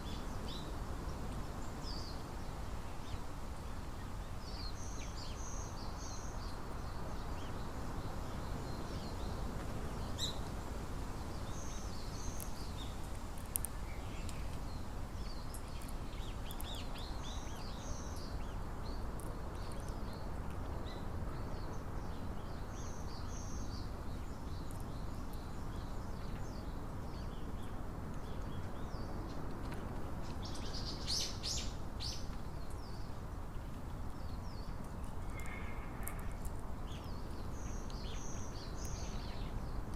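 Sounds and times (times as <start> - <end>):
low outdoor background noise: 0.0 - 39.9
small birds chirping: 0.0 - 39.9.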